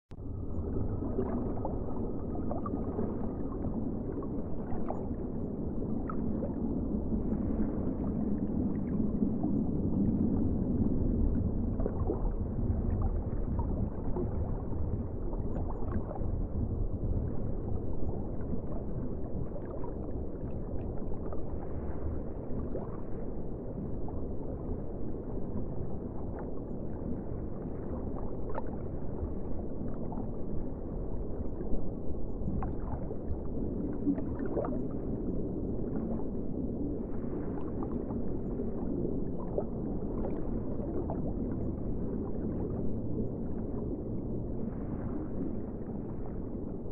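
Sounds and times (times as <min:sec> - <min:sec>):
bubbling clicks and gurgles: 0:00.1 - 0:46.9
muffled underwater water rush: 0:00.1 - 0:46.9.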